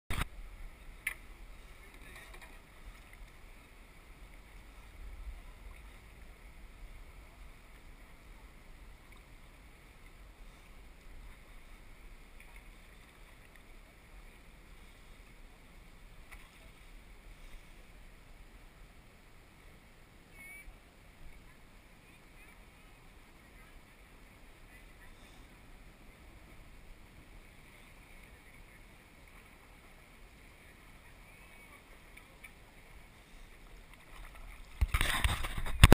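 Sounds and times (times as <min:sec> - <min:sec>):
low steady rumble: 0:00.1 - 0:35.9
soft paddle strokes: 0:00.1 - 0:35.9
water moving along hull: 0:00.1 - 0:35.9.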